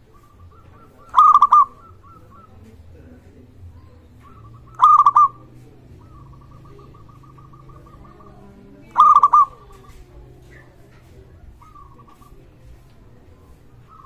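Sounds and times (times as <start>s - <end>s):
dove cooing: 0.0s - 14.0s
rapid repeated bird notes: 0.0s - 14.0s.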